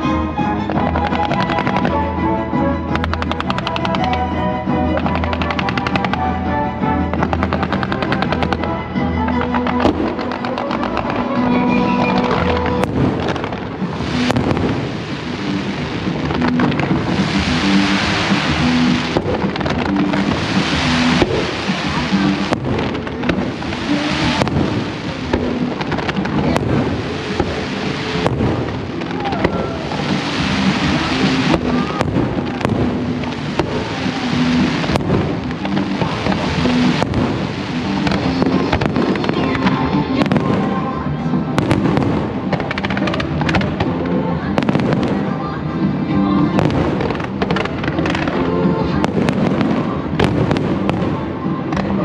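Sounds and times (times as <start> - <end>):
fireworks bangs and crackling: 0.0 - 2.2, 2.9 - 52.0
music playing: 0.0 - 52.0.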